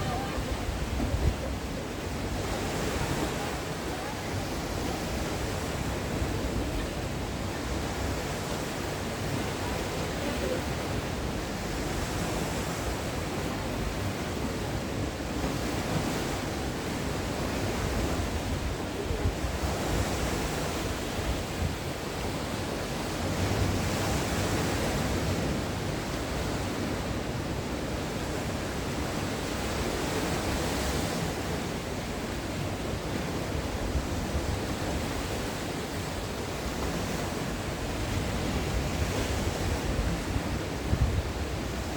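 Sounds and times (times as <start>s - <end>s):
wind on microphone: 0.0s - 31.7s, 32.7s - 41.9s
sea waves breaking on shore: 0.0s - 41.9s.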